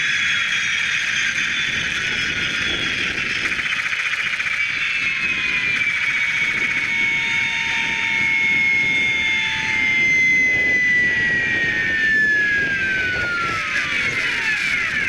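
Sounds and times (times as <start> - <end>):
model helicopter turbine whine: 0.0 - 15.0.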